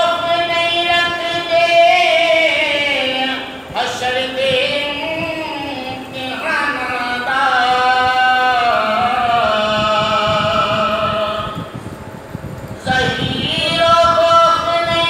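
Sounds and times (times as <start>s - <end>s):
man singing unaccompanied: 0.0s - 11.8s, 12.8s - 15.0s.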